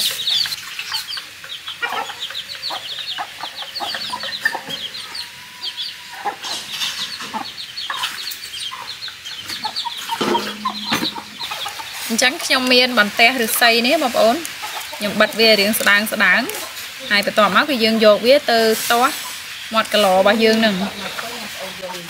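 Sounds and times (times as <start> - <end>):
chickens clucking and peeping: 0.0 - 22.0.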